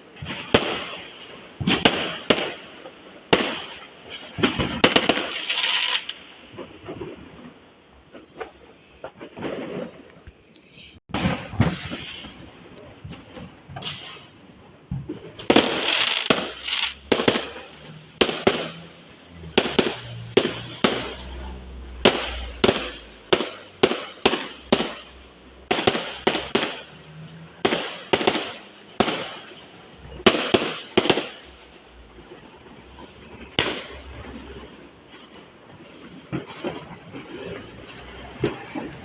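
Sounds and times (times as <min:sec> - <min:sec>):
fireworks banging: 0:00.0 - 0:39.0.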